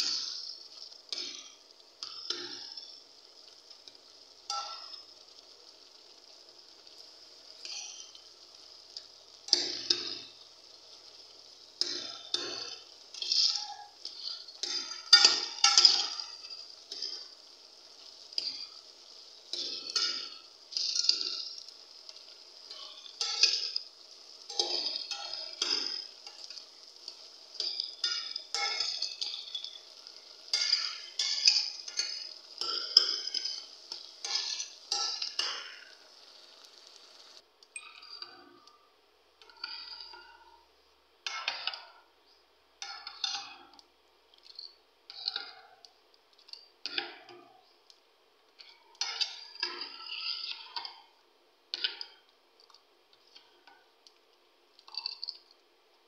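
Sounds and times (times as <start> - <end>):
carrots sizzling: 0.0 - 55.9.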